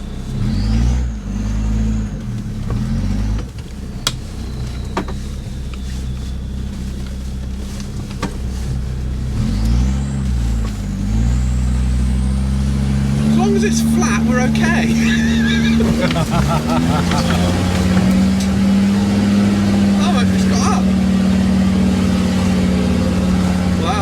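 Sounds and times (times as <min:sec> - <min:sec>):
engine labouring on climb: 0:00.0 - 0:24.0.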